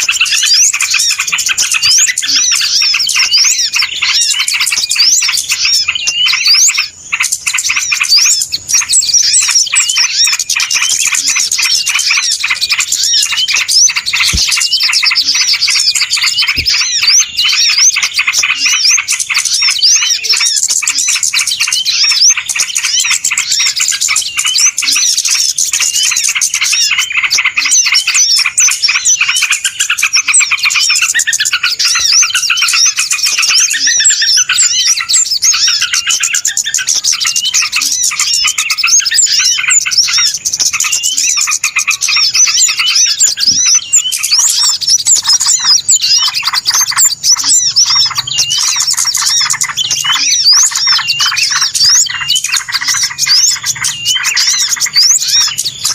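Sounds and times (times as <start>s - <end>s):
flock of small birds chirping: 0.0s - 55.9s.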